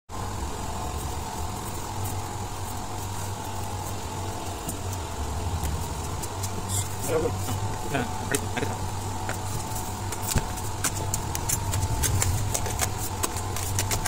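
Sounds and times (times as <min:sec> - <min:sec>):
faint constant tone: 0:00.1 - 0:14.0
low mechanical hum: 0:00.1 - 0:14.0.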